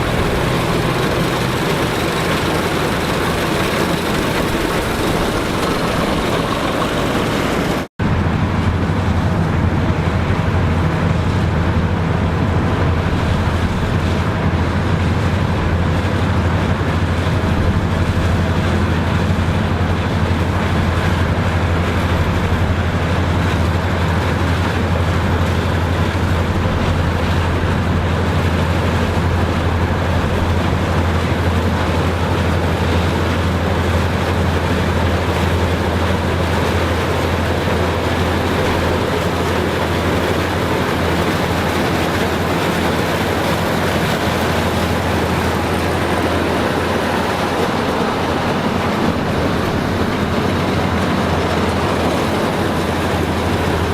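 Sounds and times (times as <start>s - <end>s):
farm machinery engine drone: 0.0s - 53.9s.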